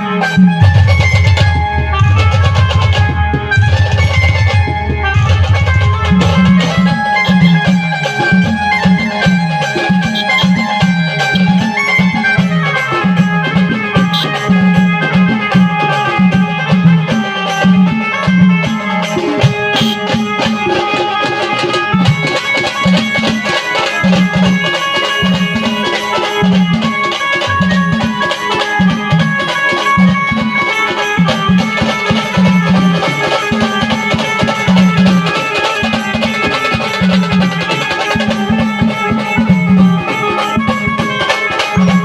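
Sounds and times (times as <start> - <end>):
fast drumming: 0.0 - 42.0
held melody notes: 0.0 - 42.0
steady low drum beat: 0.0 - 42.0.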